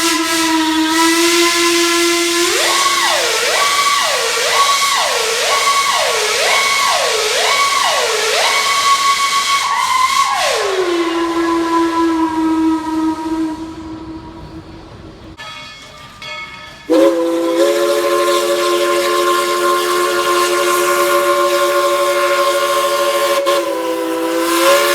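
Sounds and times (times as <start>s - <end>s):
steam locomotive whistle: 0.0s - 15.4s, 16.9s - 24.9s
steam hissing: 0.0s - 24.9s.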